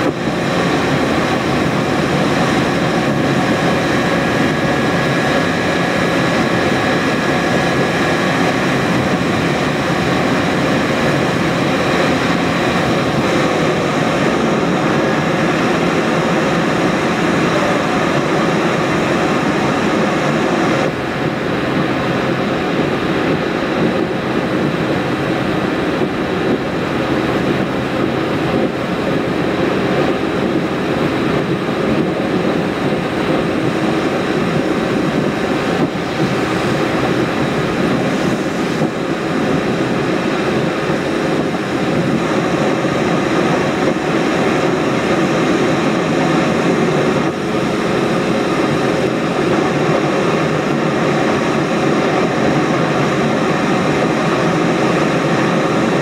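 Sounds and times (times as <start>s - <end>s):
car engine running: 0.0s - 56.0s
road and tyre noise: 0.0s - 56.0s.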